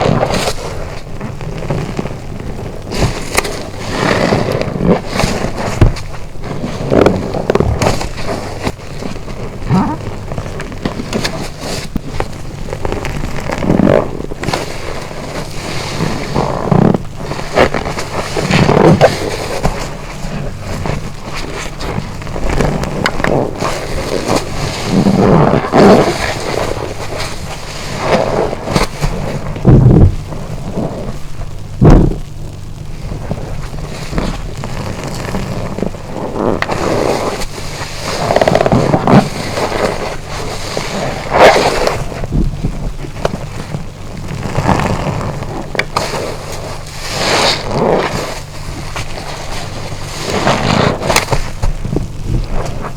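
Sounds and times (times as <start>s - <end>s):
wet sponge squelching: 2.9s - 32.2s, 32.9s - 52.9s.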